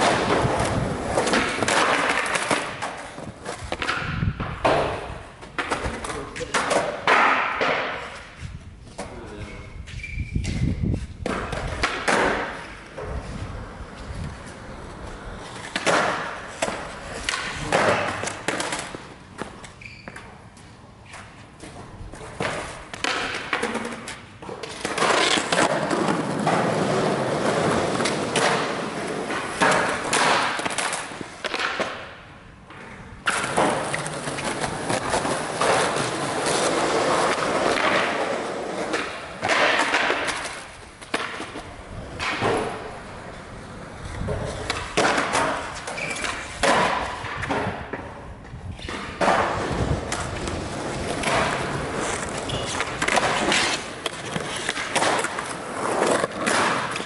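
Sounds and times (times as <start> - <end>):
skateboard decks clacking on ground: 0.0 - 8.4, 10.0 - 20.5, 21.1 - 57.0
skateboard wheels rolling on concrete: 0.0 - 57.0.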